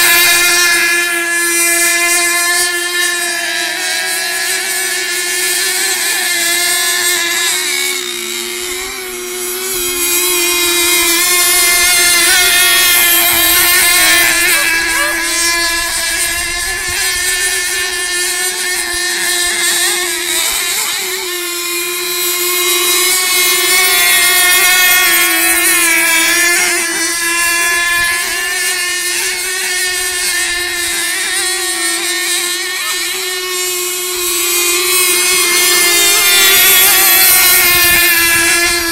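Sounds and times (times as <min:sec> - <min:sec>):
high-pitched boat engine whine: 0:00.0 - 0:38.9
passing boat engines: 0:00.0 - 0:38.9.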